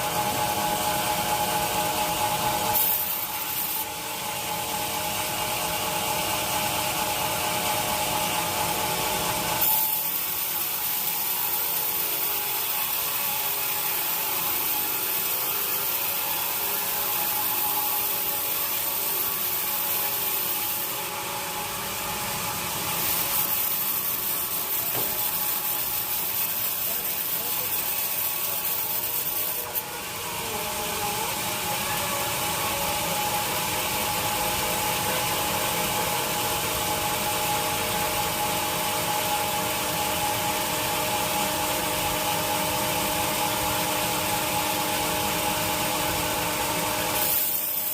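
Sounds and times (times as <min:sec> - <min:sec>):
saw cutting wood: 0:00.0 - 0:47.9.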